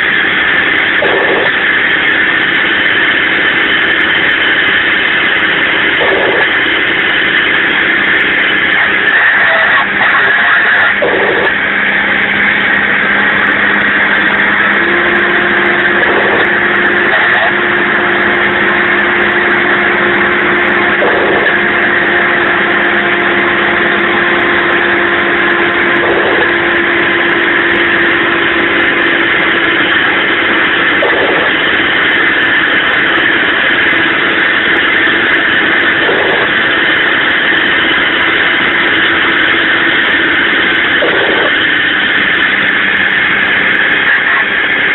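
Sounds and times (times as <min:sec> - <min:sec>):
diesel truck engine labouring: 0:00.0 - 0:44.9
steady humming tone: 0:00.0 - 0:44.9.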